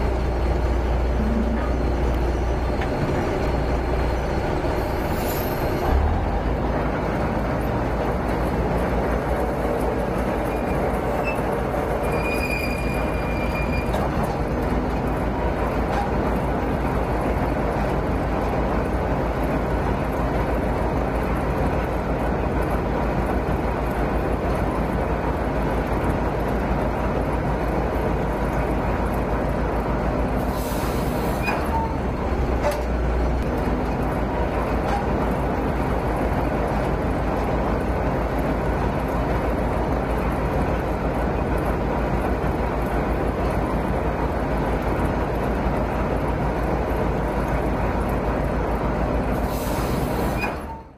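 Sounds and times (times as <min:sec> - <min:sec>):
heavy machinery drone: 0:00.0 - 0:50.9.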